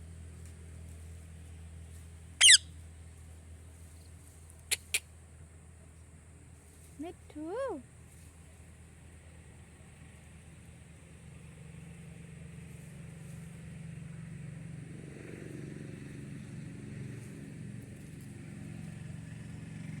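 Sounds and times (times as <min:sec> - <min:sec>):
motor vehicle engine rumble: 0:00.0 - 0:20.0.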